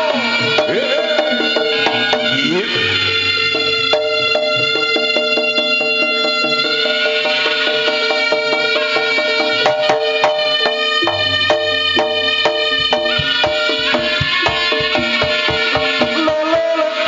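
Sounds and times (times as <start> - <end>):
sustained melody line: 0.0 - 7.9, 9.4 - 17.0
drum strokes: 0.0 - 17.0.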